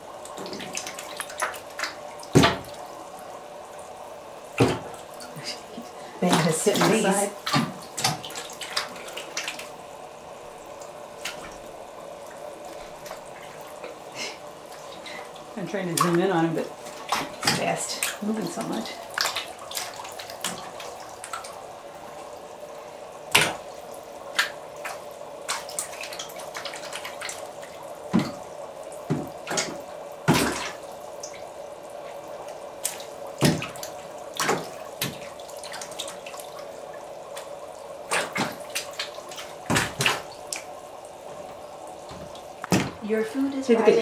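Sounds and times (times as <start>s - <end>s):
steady hum: 0.0s - 44.0s
water splashing and dripping: 0.0s - 44.0s.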